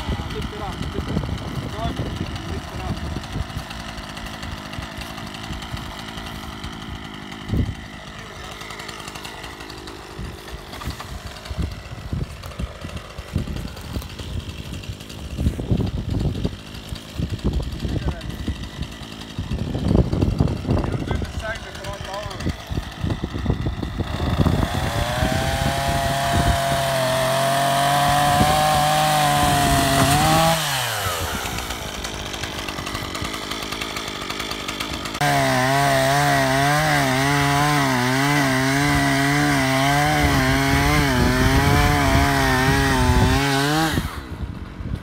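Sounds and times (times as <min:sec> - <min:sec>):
chainsaw cutting through log: 0:00.0 - 0:45.0
chainsaw revving and idling: 0:00.0 - 0:45.0.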